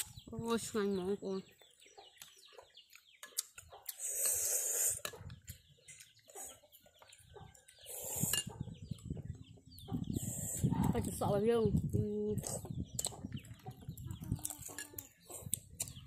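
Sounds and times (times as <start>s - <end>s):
chickens clucking: 1.4s - 16.0s.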